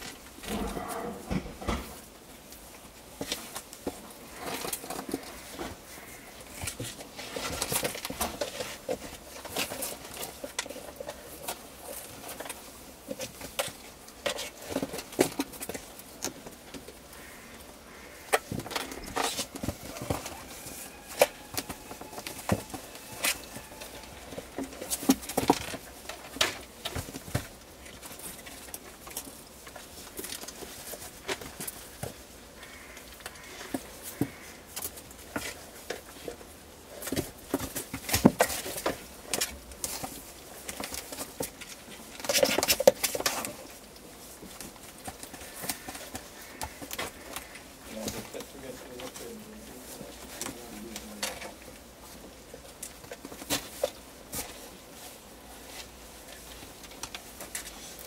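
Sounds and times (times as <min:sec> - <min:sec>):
paws scratching on cardboard: 0:00.0 - 0:58.0.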